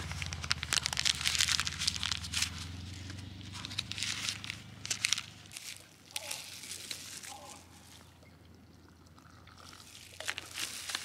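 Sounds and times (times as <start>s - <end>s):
crinkling rustle: 0.0s - 8.2s, 9.8s - 11.0s.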